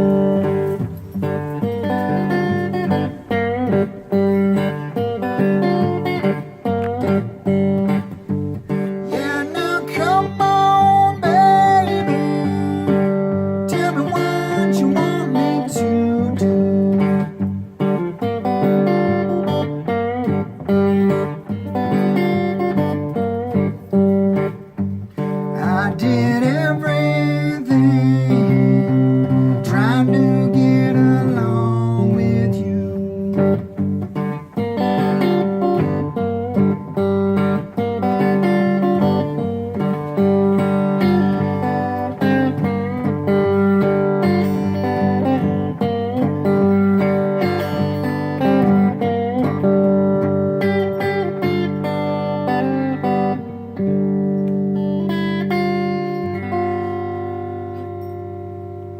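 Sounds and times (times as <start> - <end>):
acoustic guitar blues riff: 0.0 - 58.9.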